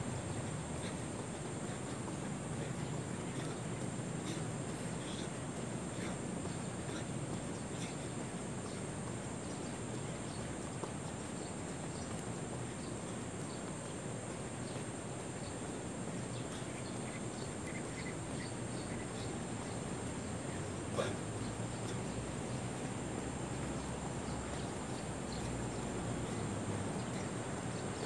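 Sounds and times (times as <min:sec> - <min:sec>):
insects droning: 0:00.0 - 0:28.0
low background hum: 0:00.0 - 0:28.0.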